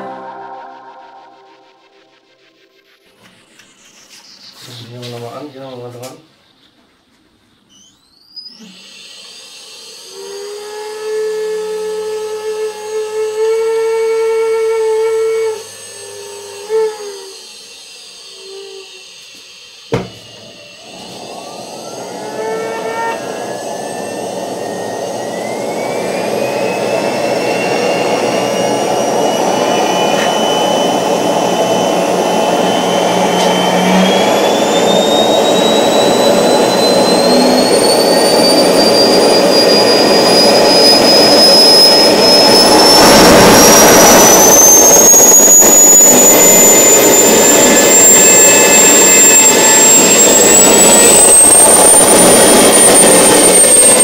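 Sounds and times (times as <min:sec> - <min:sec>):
jet engine rushing roar: 0:00.0 - 0:10.9, 0:12.1 - 0:54.0
jet engine whine rising: 0:00.0 - 0:54.0.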